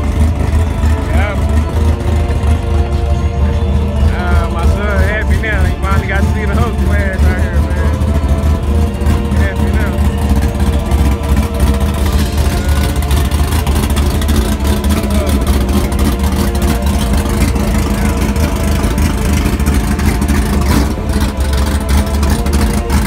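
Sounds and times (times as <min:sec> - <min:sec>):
car engine idling: 0:00.0 - 0:23.0
people talking: 0:00.0 - 0:23.0.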